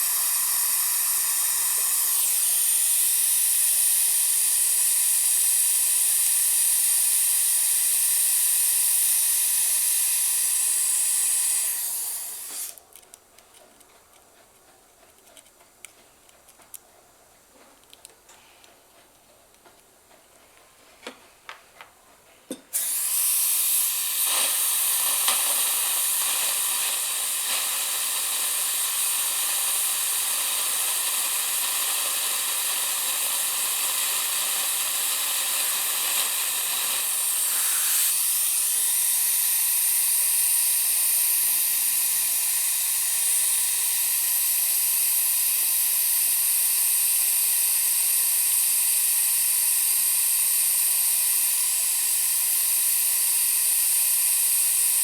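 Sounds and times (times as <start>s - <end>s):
dental drill whining: 0.0s - 12.8s, 22.7s - 55.0s.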